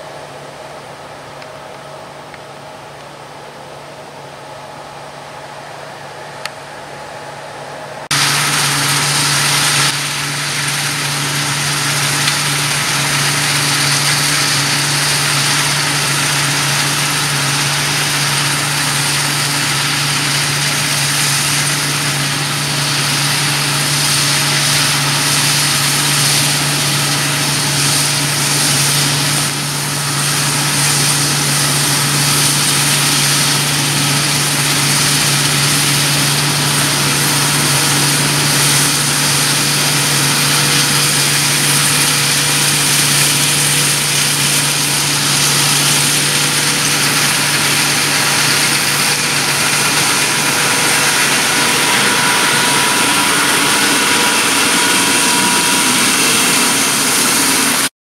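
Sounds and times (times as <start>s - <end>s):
combine harvester engine drone: 0.0s - 57.9s
broad hiss: 8.1s - 57.9s.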